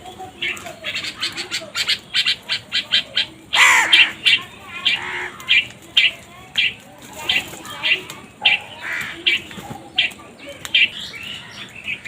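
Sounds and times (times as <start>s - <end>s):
crows calling: 0.4s - 12.0s.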